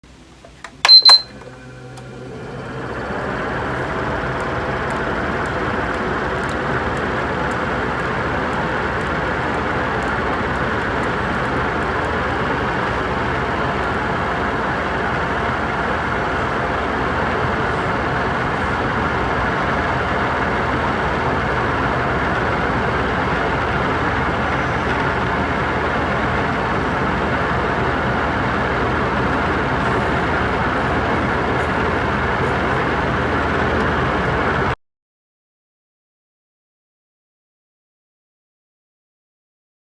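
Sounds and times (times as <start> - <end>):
electric fan air rush: 0.1 - 34.8
fan motor hum: 0.1 - 34.8.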